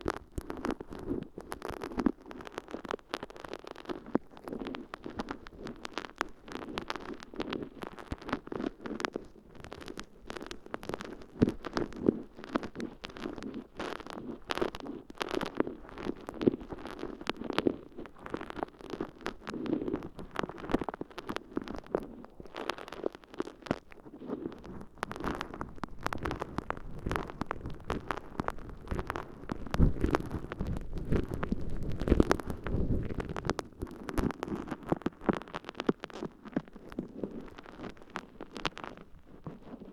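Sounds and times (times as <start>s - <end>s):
wet sponge squishing and crackling: 0.1s - 39.9s.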